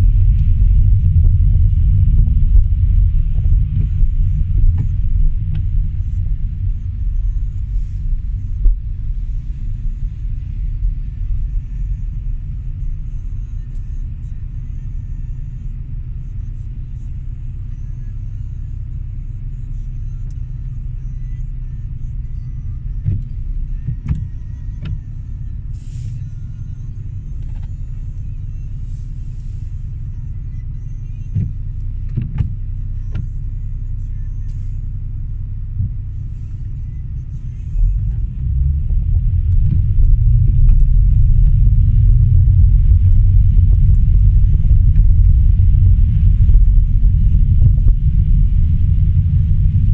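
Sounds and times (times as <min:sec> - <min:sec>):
car rumble from inside cabin: 0:00.0 - 0:49.9.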